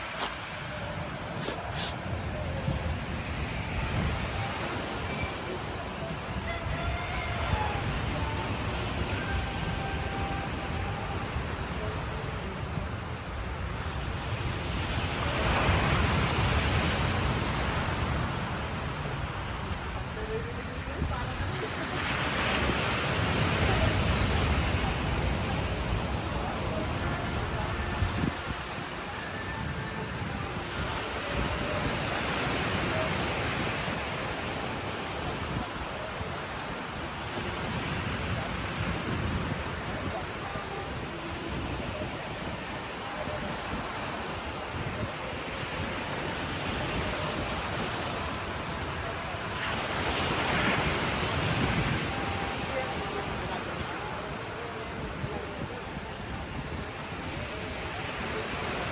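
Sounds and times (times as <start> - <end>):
ocean surf washing: 0.0 - 58.9
waves breaking on shore: 0.0 - 58.9.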